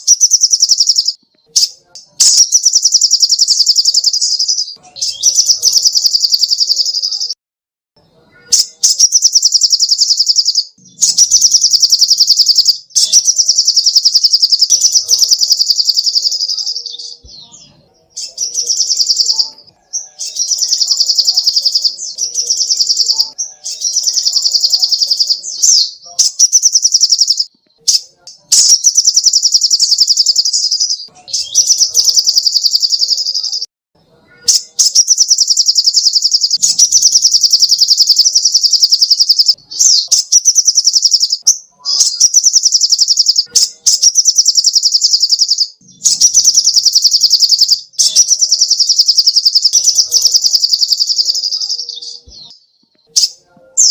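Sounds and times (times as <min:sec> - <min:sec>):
sunbird high-pitched trilling: 0:00.0 - 0:07.4, 0:08.3 - 0:33.7, 0:34.3 - 0:52.5.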